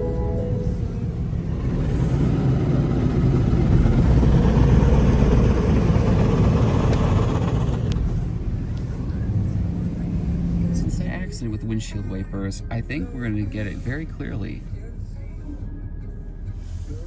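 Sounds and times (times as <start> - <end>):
car wash machine rushing: 0.0 - 14.9.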